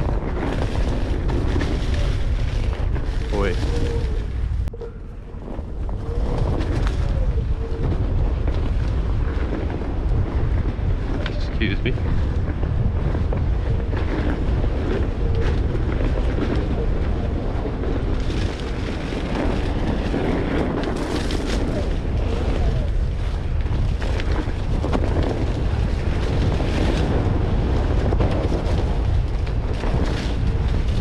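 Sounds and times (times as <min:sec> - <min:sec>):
tire crackling over pine needles: 0:00.0 - 0:31.0
wind rumbling on microphone: 0:00.0 - 0:31.0.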